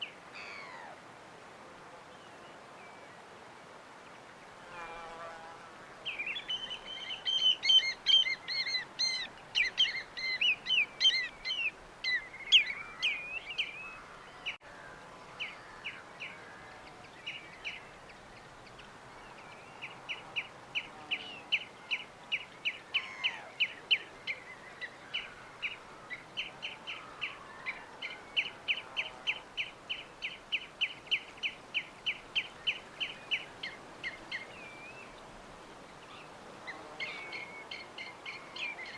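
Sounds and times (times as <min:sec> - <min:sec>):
small birds chirping: 0:06.0 - 0:14.6, 0:15.2 - 0:38.9.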